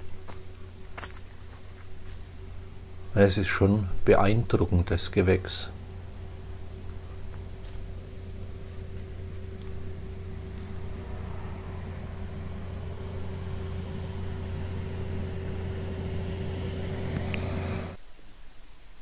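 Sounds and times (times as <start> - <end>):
motor hum: 0.0 - 18.0
steady higher tone: 0.0 - 18.0.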